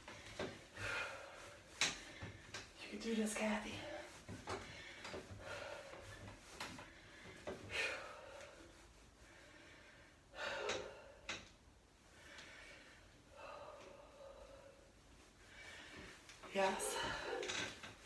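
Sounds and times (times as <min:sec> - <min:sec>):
woman breathing hard: 0:00.0 - 0:02.7, 0:04.0 - 0:11.4, 0:12.1 - 0:17.8.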